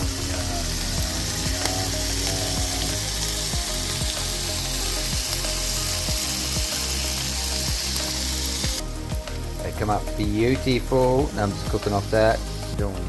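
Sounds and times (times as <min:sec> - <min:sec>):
chicken skewers sizzling: 0:00.0 - 0:13.0.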